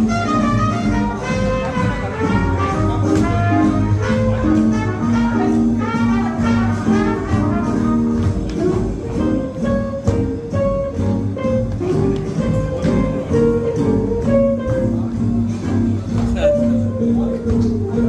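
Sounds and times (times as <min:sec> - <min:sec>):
jazz brass melody: 0:00.0 - 0:18.0
steady swinging beat: 0:00.0 - 0:18.0.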